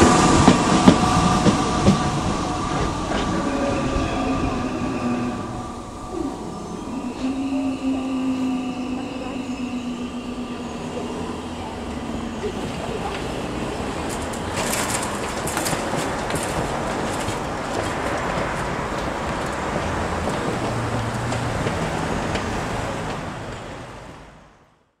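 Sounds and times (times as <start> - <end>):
cars driving: 0.0 - 24.5
street noise: 0.0 - 24.9.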